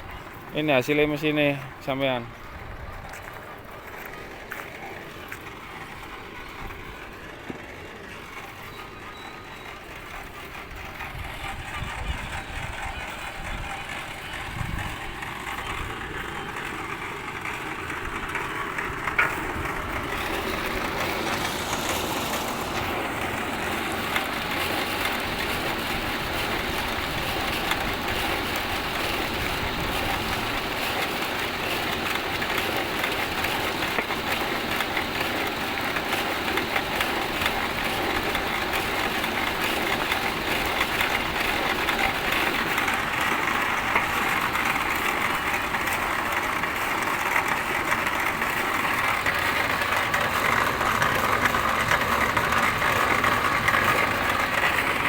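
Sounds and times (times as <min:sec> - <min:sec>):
pellet mill mechanical clatter: 0:00.0 - 0:55.0.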